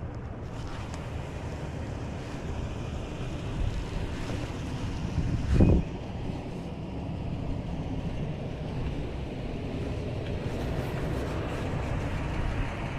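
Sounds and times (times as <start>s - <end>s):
wind buffeting microphone: 2.0s - 12.9s.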